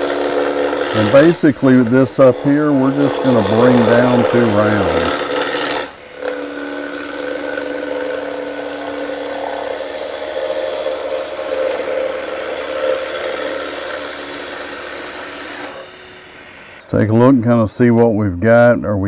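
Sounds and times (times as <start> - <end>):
gouge cutting spinning wood: 0.0 - 18.1
lathe hum: 0.0 - 18.7.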